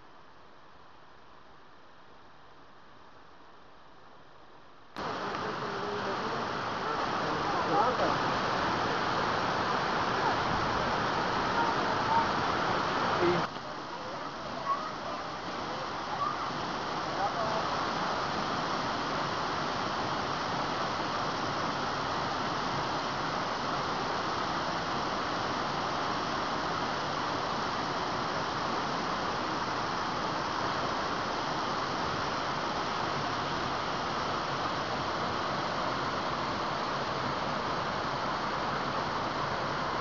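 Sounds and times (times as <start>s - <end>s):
waterfall rushing: 5.0s - 40.0s.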